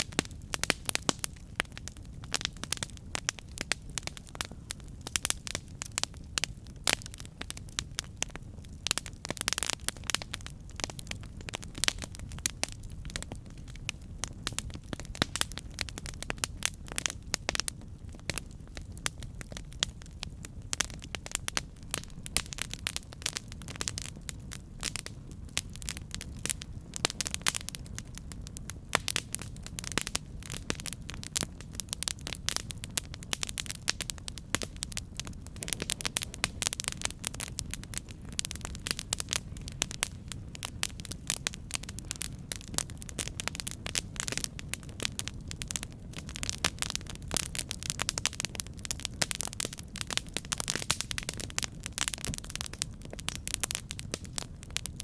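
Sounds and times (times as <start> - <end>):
campfire crackles and pops: 0.0 - 55.0
low rush of flame: 0.0 - 55.0.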